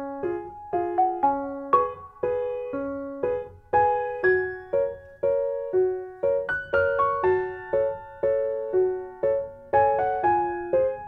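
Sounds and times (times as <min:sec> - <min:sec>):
gentle piano piece: 0:00.0 - 0:11.0.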